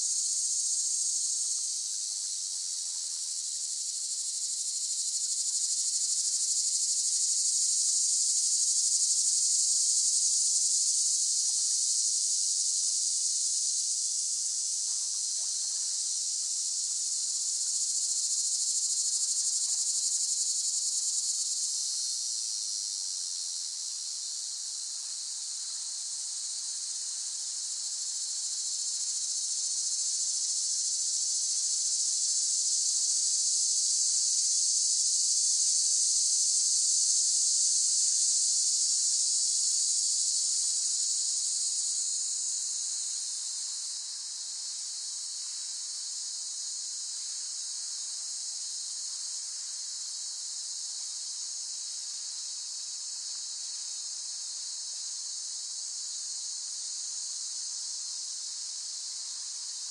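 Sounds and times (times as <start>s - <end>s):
cicadas buzzing: 3.4s - 14.2s, 15.0s - 59.9s.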